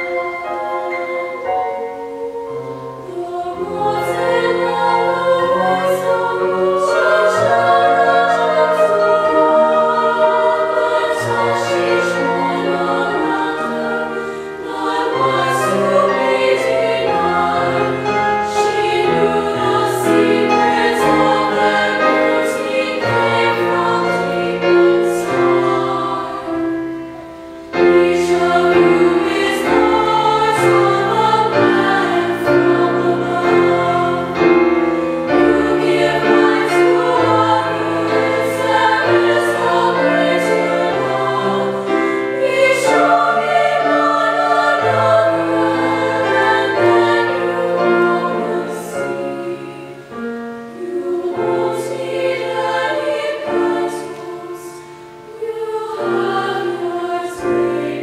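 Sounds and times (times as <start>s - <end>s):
piano accompaniment: 0.0s - 58.0s
women's choir singing: 0.0s - 58.0s.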